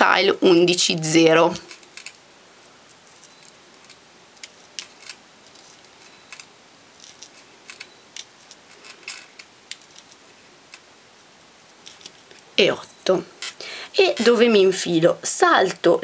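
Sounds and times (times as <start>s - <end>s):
needle clicking and scraping beads: 1.3s - 14.5s.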